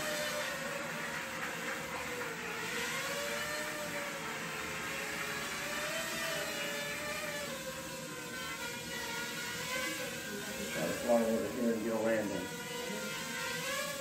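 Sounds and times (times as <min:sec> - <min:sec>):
drone propellers whirring: 0:00.0 - 0:14.0.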